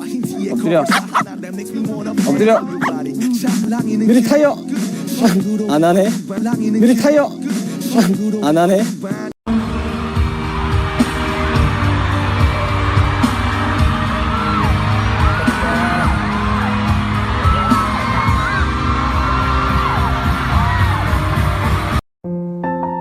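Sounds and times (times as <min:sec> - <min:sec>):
pop music with singing: 0:00.0 - 0:09.3, 0:11.0 - 0:21.5.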